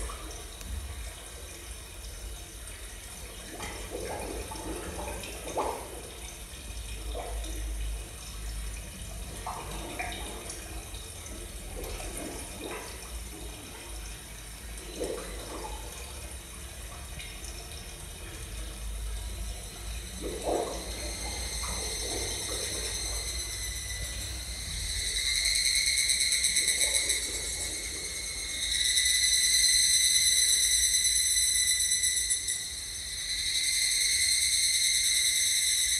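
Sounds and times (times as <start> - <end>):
running water gurgling: 0.0 - 35.9.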